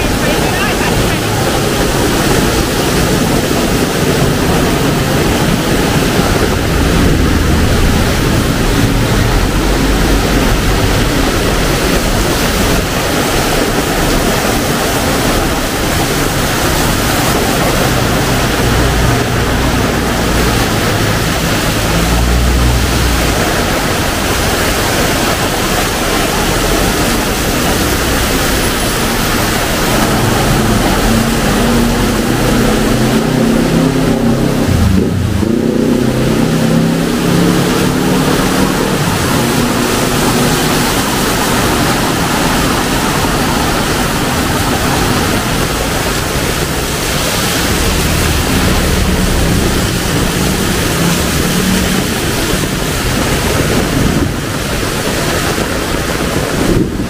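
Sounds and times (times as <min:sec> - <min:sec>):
heavy rain pouring: 0:00.0 - 0:57.0
low rumble: 0:00.9 - 0:57.0.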